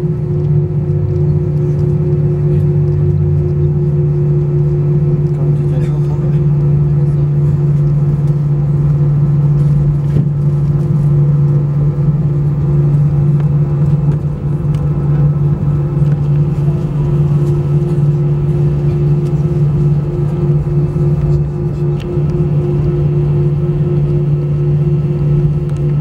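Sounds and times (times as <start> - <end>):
aircraft cabin engine drone: 0.0 - 26.0.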